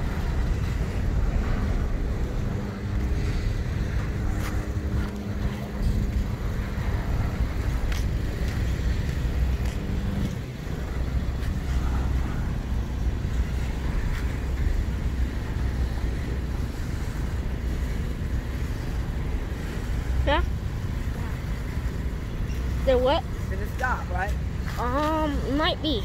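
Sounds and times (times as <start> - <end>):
diesel locomotive engine rumble: 0.0 - 26.0
wind on microphone: 0.0 - 26.0.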